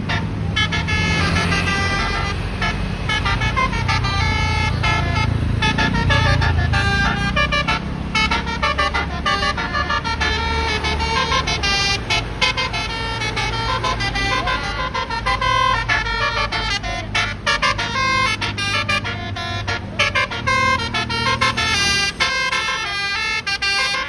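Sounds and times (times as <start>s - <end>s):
low engine hum: 0.0s - 24.0s
melodic multi-trumpet bus horn: 0.0s - 24.0s.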